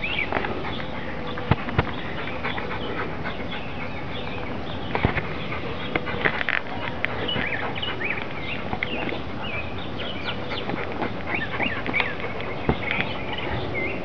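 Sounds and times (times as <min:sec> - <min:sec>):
birds chirping: 0:00.0 - 0:14.0
puppy digging in soil: 0:00.0 - 0:14.0.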